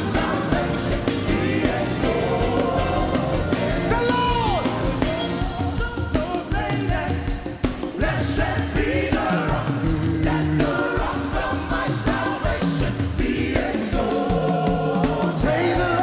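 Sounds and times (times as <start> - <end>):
band with steady beat: 0.0 - 16.0
choir singing: 0.0 - 16.0.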